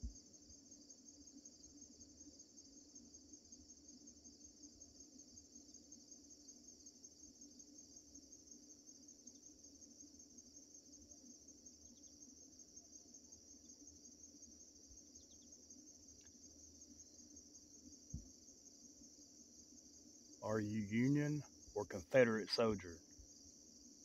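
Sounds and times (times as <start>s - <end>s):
crickets and insects trilling: 0.1s - 20.4s, 21.0s - 24.0s.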